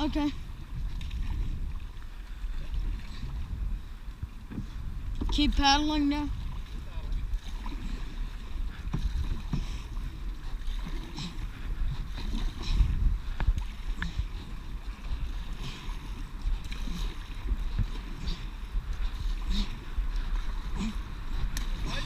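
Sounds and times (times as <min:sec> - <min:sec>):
paddle splashes: 0:00.0 - 0:22.0
paddles knocking hull: 0:00.0 - 0:22.0
rushing water: 0:00.0 - 0:22.0
wind on microphone: 0:00.0 - 0:22.0.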